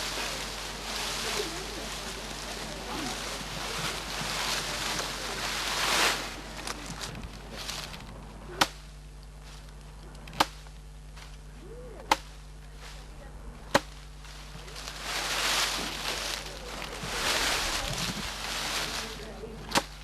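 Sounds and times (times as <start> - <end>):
rustling hiss: 0.0 - 8.6, 11.1 - 20.0.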